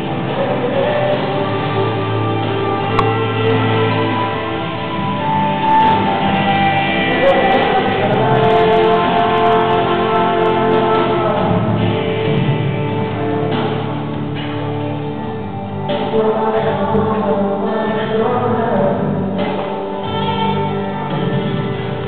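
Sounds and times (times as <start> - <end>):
gospel worship song: 0.0 - 22.0.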